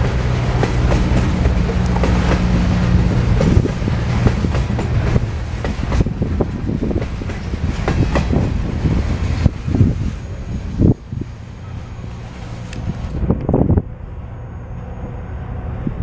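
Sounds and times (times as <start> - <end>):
train wheels clattering on rails: 0.0 - 13.2.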